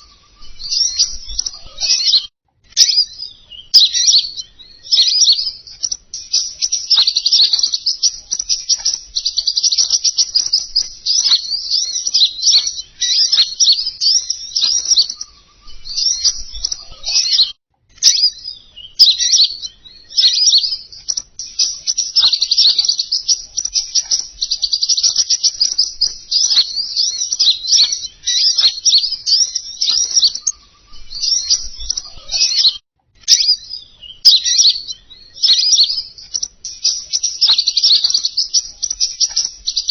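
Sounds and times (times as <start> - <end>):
songbird twittering: 0.0 - 39.9.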